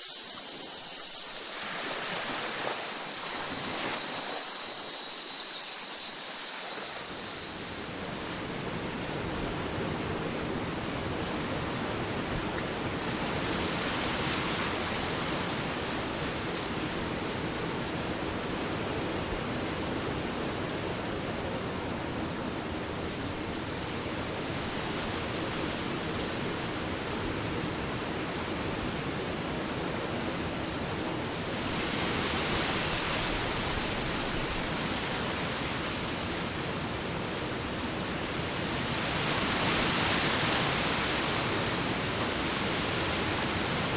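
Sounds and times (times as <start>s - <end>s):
ocean waves washing onto beach: 0.0s - 43.9s.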